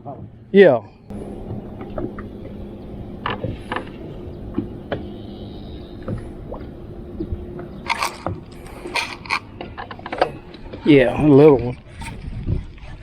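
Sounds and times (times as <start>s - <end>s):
steady low hum: 0.2s - 12.5s.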